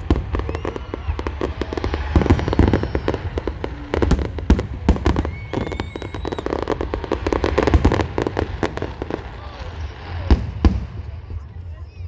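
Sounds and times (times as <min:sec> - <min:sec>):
loud firework bangs: 0:00.0 - 0:11.8
fireworks crackling pops: 0:00.0 - 0:11.9
rising firework whistles: 0:00.0 - 0:12.0.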